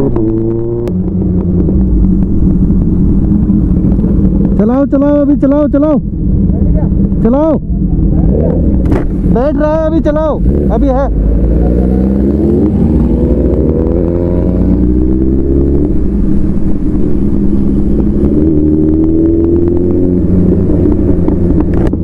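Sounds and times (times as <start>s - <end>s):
motorbike engine revving: 0.0s - 5.8s, 8.2s - 22.0s.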